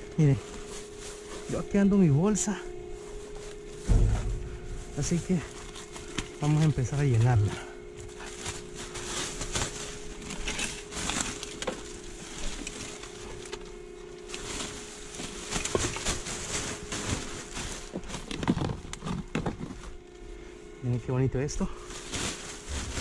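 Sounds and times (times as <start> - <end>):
faint steady hum: 0.0 - 23.0
plastic bags crinkling: 0.1 - 20.1, 21.8 - 23.0.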